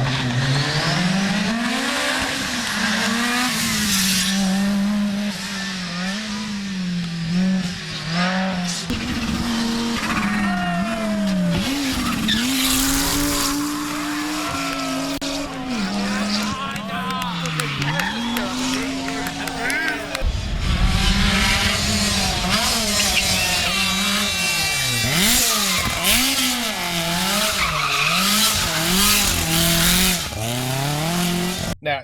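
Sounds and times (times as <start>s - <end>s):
rally car engine at high revs: 0.0s - 31.8s.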